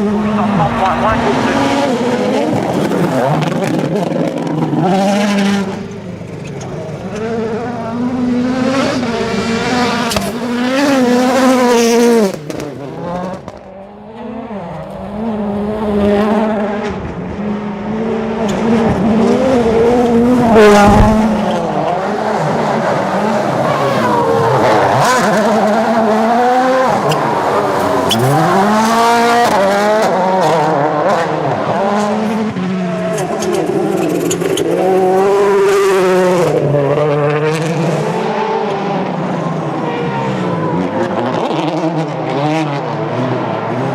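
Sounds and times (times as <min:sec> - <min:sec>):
cars passing by: 0:00.0 - 0:43.9
rally car engines revving: 0:00.0 - 0:43.9.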